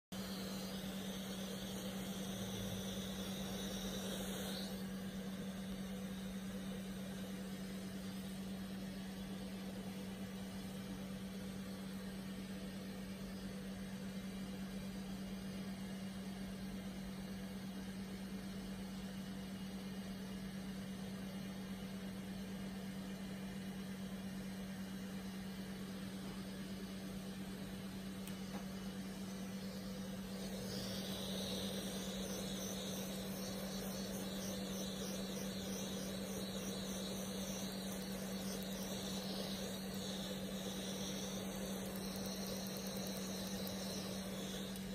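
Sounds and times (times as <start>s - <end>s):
low machine hum: 0.1s - 44.9s.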